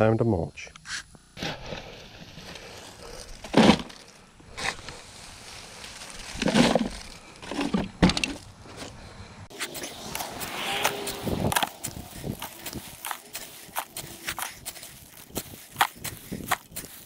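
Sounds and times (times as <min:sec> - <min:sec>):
mulch crunching as it is dug: 0:01.4 - 0:17.0.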